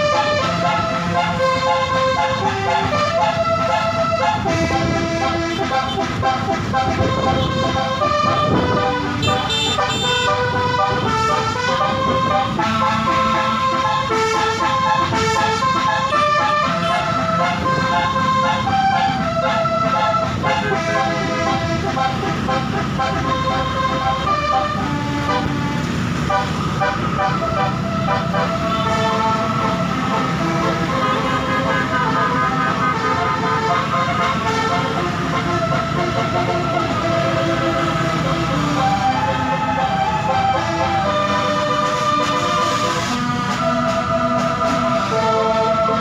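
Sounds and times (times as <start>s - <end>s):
musical air horn melody: 0.0s - 46.0s.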